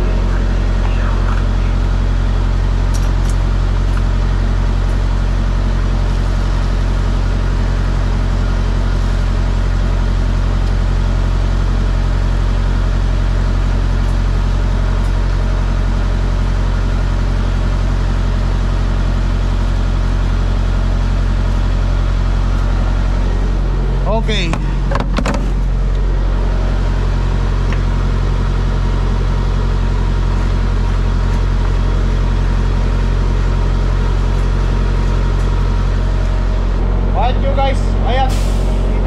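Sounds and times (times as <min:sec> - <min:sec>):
low engine hum: 0:00.0 - 0:39.0.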